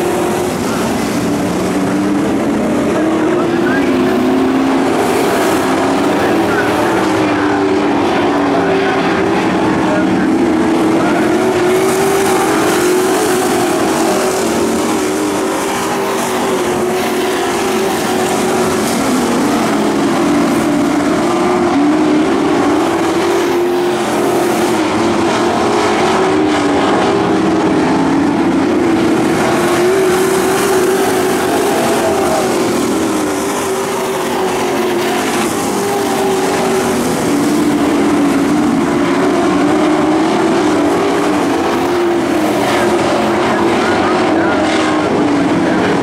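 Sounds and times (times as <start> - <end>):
truck engines racing: 0.0 - 46.0.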